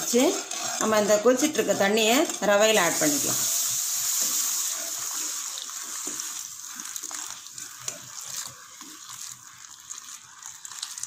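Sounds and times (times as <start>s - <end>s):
hissing and spluttering: 0.0s - 11.0s
spatula stirring: 0.0s - 11.0s
water pouring into hot pan: 0.0s - 11.0s.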